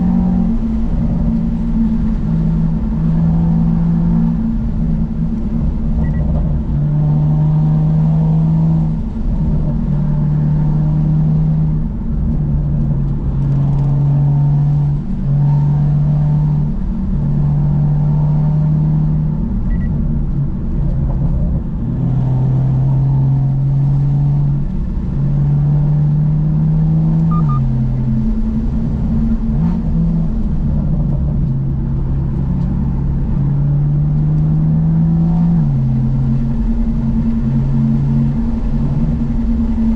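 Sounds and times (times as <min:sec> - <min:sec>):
car engine droning while driving: 0:00.0 - 0:39.9.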